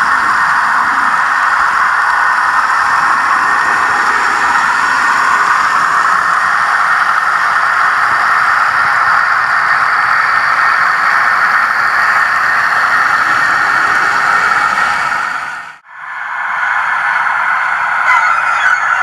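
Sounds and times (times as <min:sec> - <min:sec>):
model locomotive running: 0:00.0 - 0:19.0.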